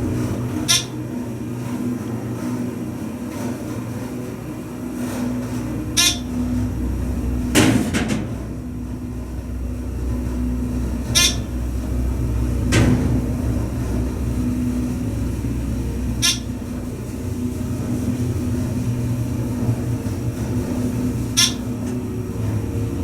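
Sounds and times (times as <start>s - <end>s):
elevator low hum: 0.0s - 23.0s.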